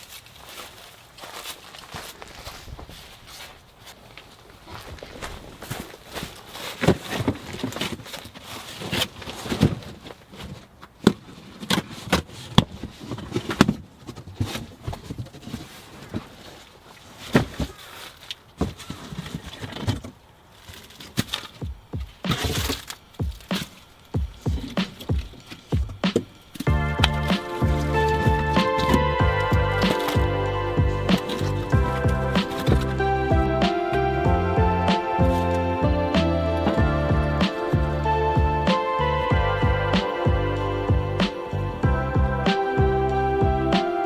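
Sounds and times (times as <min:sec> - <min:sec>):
rustling: 0:00.0 - 0:44.0.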